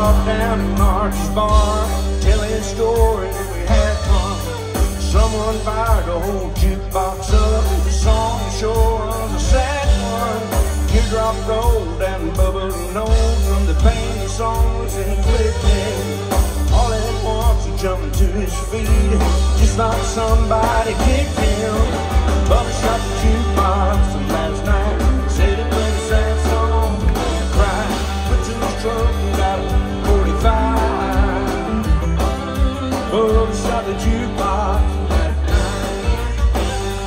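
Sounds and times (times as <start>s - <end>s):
lead vocal singing: 0.0s - 36.4s
bass guitar: 0.0s - 37.0s
electric guitar: 0.0s - 37.0s
live country band playing: 0.0s - 37.0s
steady drum beat: 0.0s - 37.0s.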